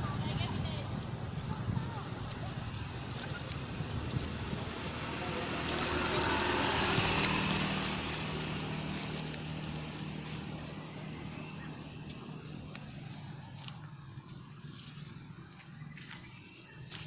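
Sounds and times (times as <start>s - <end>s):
motor vehicle passing: 0.0s - 17.0s.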